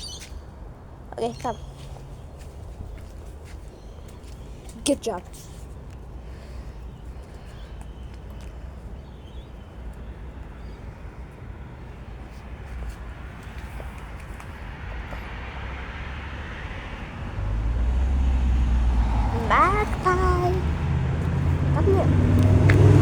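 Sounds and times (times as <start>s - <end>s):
passing road vehicle rumble: 0.0s - 23.0s.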